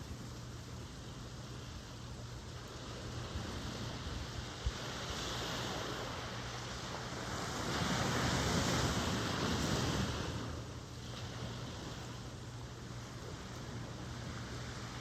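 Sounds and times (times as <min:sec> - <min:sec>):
ocean surf washing in: 0:02.6 - 0:15.0.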